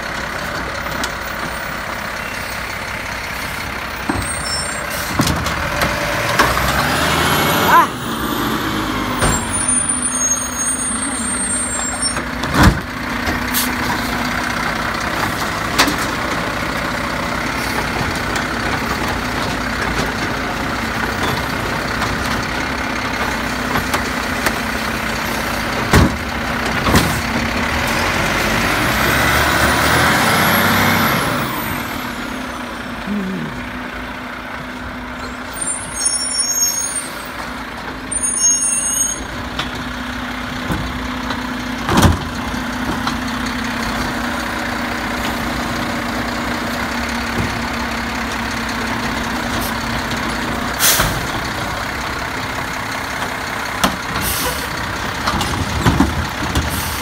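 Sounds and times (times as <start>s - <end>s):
garbage truck engine running: 0.0s - 57.0s.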